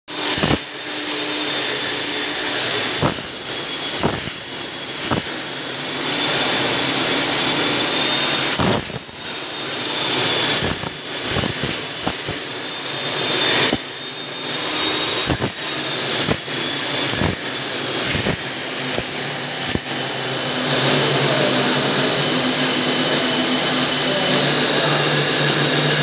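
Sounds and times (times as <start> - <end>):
power tool whining: 0.1 - 26.0.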